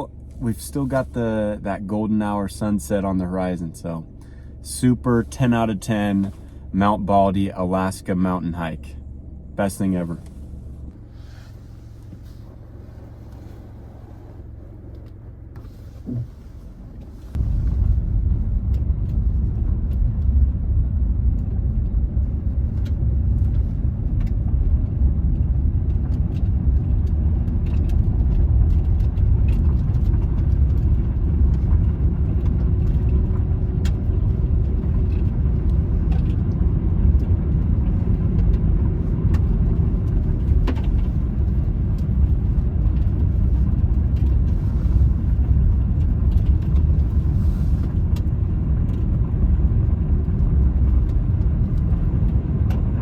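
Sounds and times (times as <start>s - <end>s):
low rumble of moving vehicle: 0.0s - 53.0s
quiet low hum: 0.0s - 53.0s.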